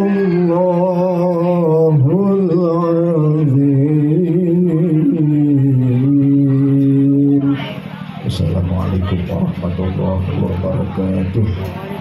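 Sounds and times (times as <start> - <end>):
man reciting melodically: 0.0 - 11.6.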